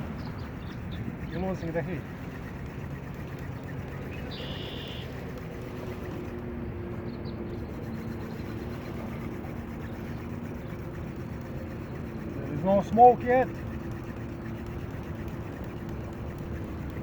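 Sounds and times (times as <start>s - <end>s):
distant engine droning: 0.0s - 17.0s.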